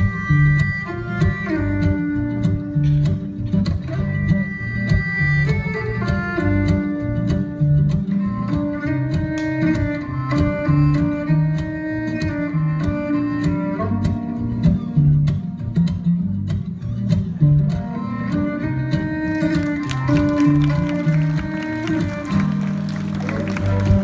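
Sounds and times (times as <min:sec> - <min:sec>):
music with bass and ticking beat: 0:00.0 - 0:21.3.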